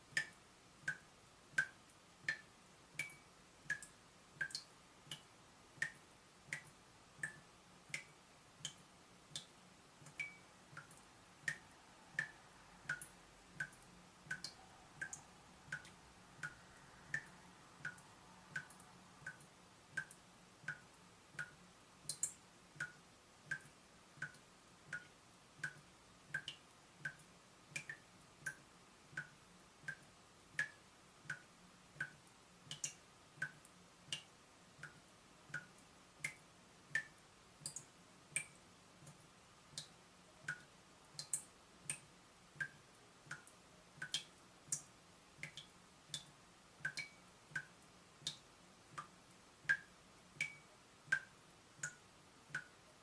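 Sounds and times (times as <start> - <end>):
water dripping from a tap: 0.1 - 52.8.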